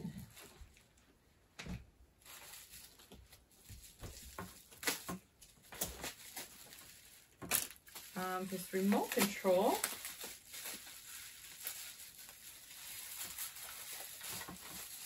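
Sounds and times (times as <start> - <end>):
packaging rustling: 2.1 - 15.0.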